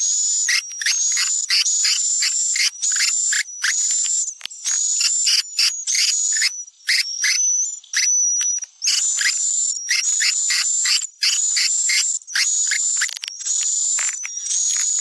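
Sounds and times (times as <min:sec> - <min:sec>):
swiftlet twittering chirps: 0:00.3 - 0:15.0.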